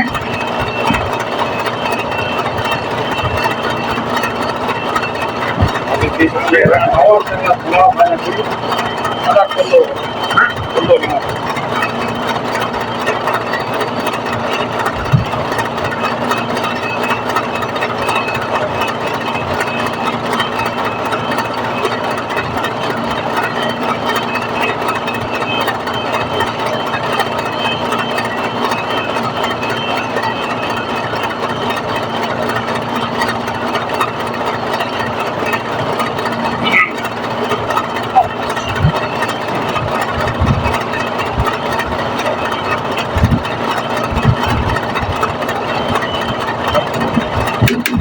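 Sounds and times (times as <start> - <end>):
machine motor humming: 0.0 - 48.0.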